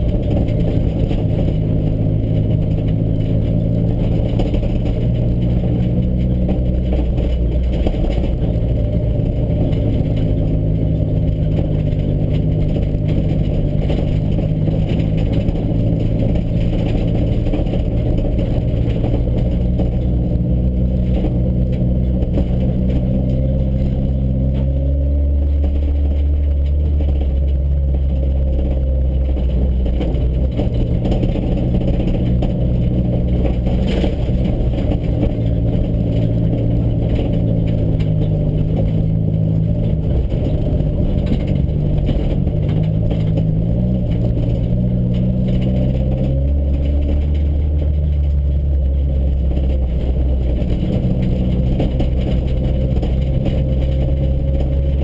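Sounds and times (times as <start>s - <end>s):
car engine running: 0.0s - 55.0s
tyre noise on dirt road: 0.0s - 55.0s.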